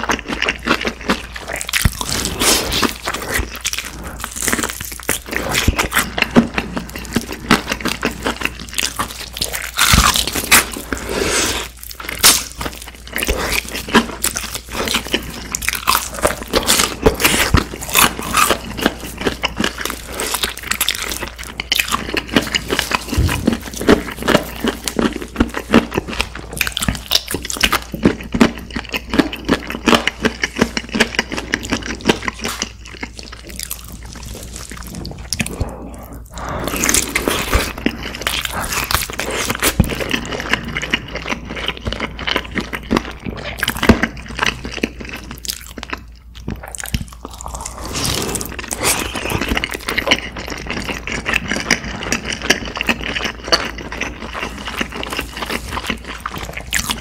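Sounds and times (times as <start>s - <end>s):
wet chewing and lip smacking: 0.0s - 57.0s.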